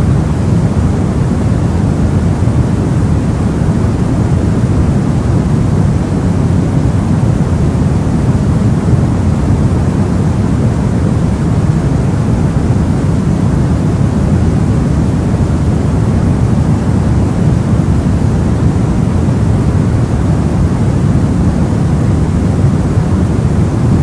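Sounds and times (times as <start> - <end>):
steady white noise: 0.0 - 24.0.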